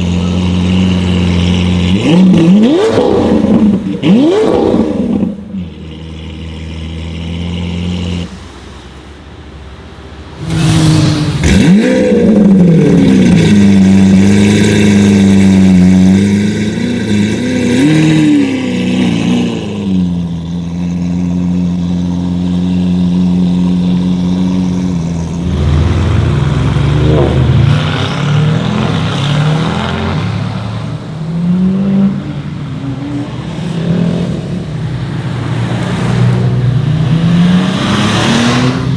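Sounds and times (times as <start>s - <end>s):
sports car engine revving: 0.0s - 8.3s, 10.4s - 38.9s.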